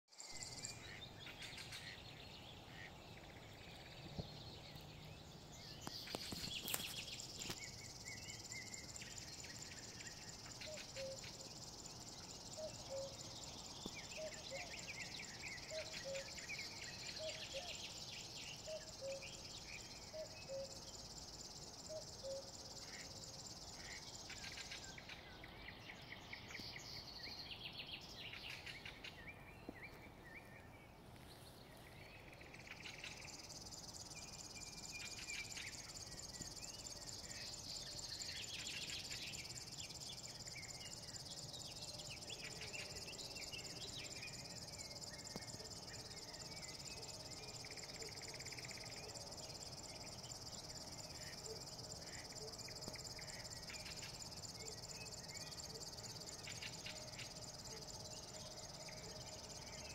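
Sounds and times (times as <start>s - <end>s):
songbirds calling: 0.1s - 59.9s.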